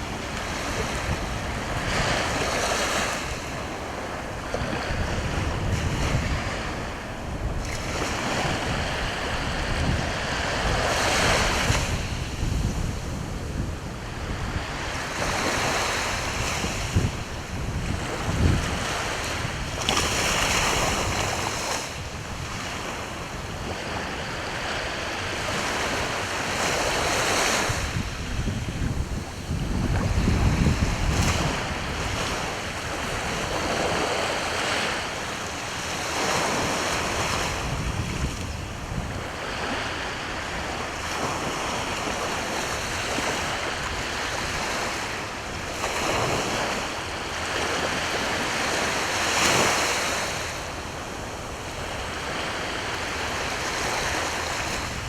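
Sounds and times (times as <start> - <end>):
sea waves washing onto shore: 0.0 - 55.0
wind buffeting microphone: 0.0 - 55.0.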